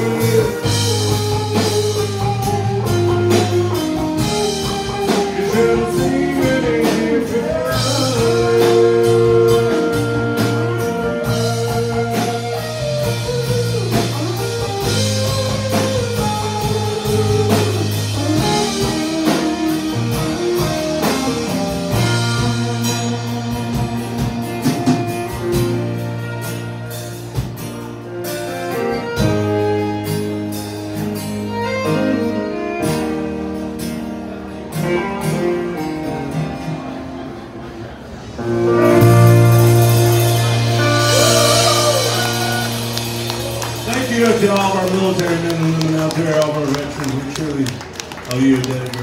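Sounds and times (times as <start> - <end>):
drum kit beat: 0.0 - 33.6, 38.5 - 47.0
acoustic guitar: 0.0 - 47.0
electric guitar: 0.0 - 49.0.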